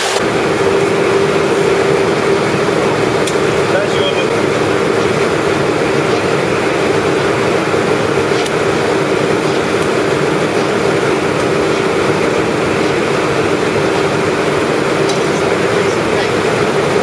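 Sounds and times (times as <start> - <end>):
pumping plant drone: 0.0 - 17.0.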